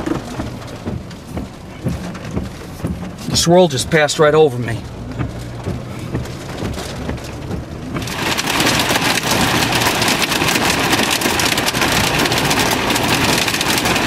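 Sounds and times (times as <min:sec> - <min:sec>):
heavy rain pelting car roof: 0:00.0 - 0:14.0
vehicle engine and road hum: 0:00.0 - 0:14.0.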